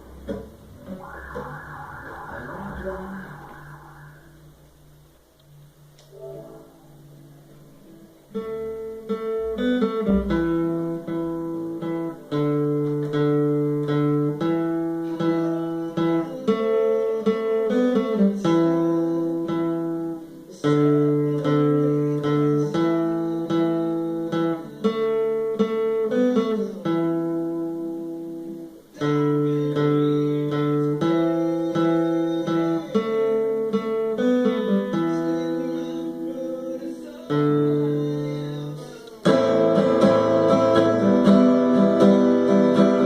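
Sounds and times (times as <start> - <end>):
acoustic guitar strumming chords: 5.8 - 43.0.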